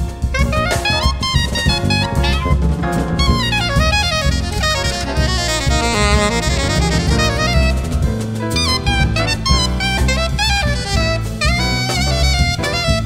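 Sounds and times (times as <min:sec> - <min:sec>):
bass: 0:00.0 - 0:13.0
drum kit: 0:00.0 - 0:13.0
soprano saxophone solo: 0:00.2 - 0:02.6, 0:03.2 - 0:13.0.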